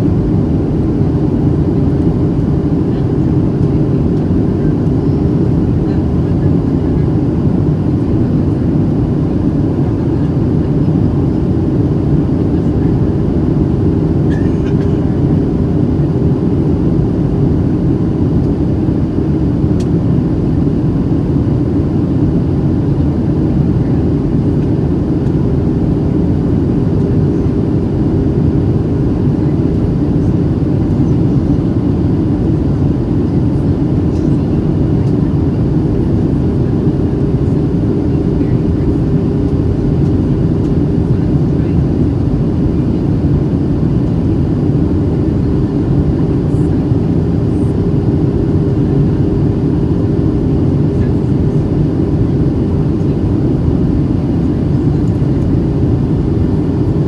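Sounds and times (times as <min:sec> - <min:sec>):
jet engines humming: 0:00.0 - 0:57.0.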